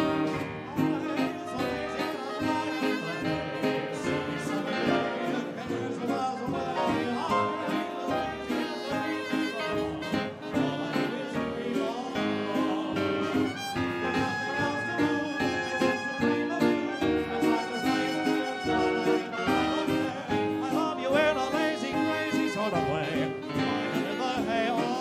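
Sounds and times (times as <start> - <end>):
swing dance orchestra: 0.0 - 25.0.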